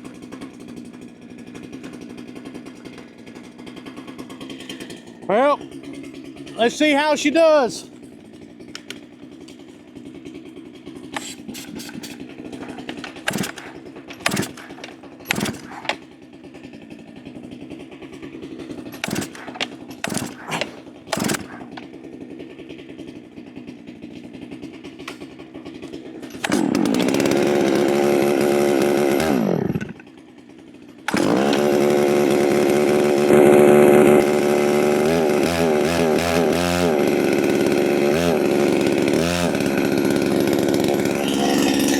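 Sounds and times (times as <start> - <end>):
chainsaw engine running: 0.0 - 41.9
chainsaw pull-start pulls: 0.0 - 41.9.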